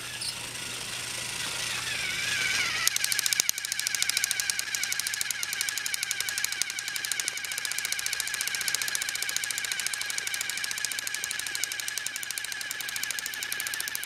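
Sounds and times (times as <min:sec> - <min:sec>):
toy train motor whine: 0:00.0 - 0:14.0
fast even clicking: 0:01.4 - 0:14.0.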